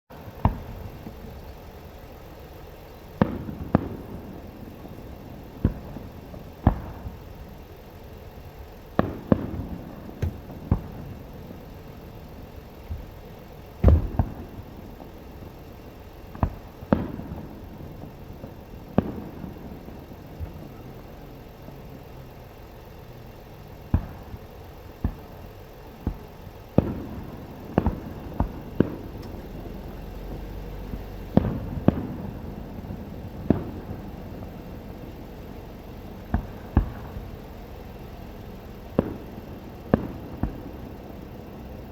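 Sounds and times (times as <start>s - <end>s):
fireworks booms: 0.1s - 41.9s
low background noise: 0.1s - 41.9s.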